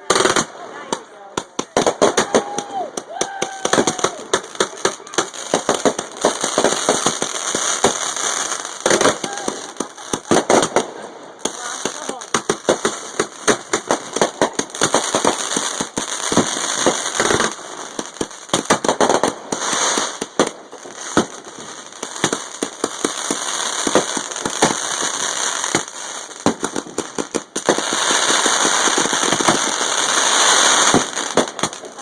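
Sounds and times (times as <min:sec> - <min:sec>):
firework crackling: 0:00.0 - 0:32.0.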